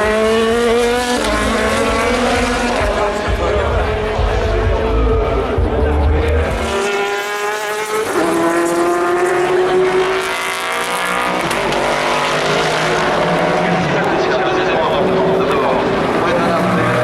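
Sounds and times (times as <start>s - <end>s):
racing car engine at high revs: 0.0s - 17.0s.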